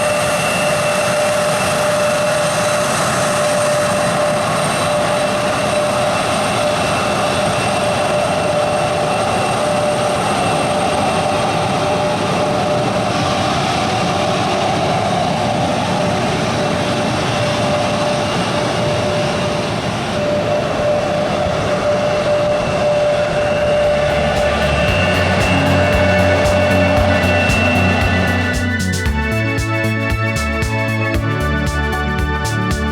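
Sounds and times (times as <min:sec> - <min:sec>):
jet engines roaring with whine: 0:00.0 - 0:31.2.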